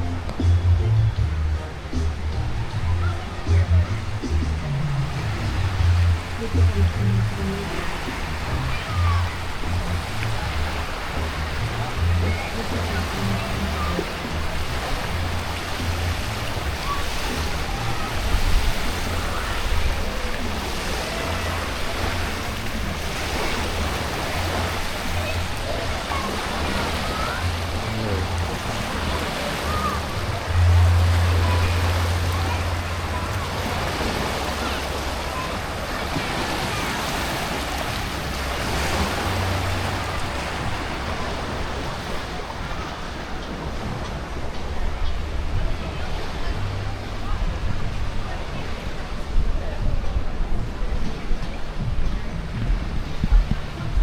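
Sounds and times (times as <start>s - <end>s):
faint distant voices: 0.0s - 54.0s
water splashing: 0.0s - 54.0s.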